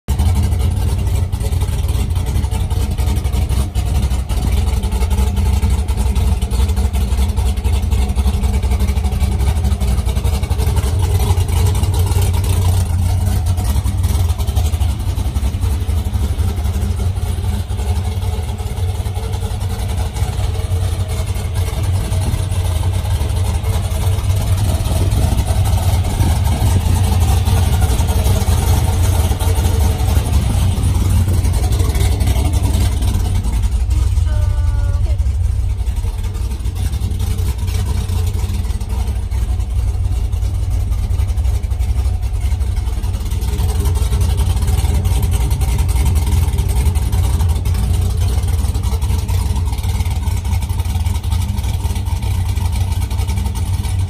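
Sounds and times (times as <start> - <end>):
deep engine idling: 0.0 - 54.0.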